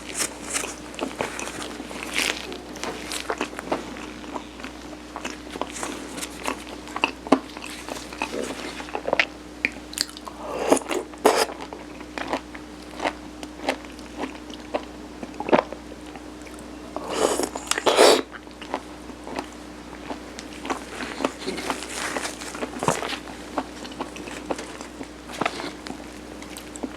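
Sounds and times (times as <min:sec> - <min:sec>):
chewing rice cake: 0:00.0 - 0:26.9
faint steady hum: 0:00.0 - 0:26.9.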